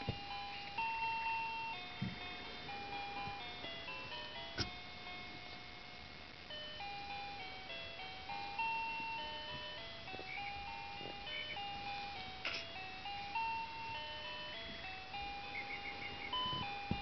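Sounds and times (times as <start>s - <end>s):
electronic beeping lullaby melody: 0.0s - 17.0s.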